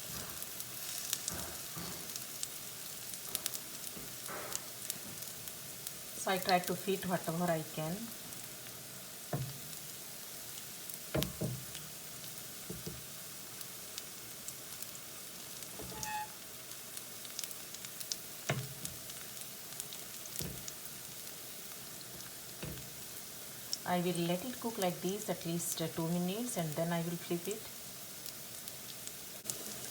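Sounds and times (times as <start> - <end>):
food sizzling in hot oil: 0.0 - 29.9.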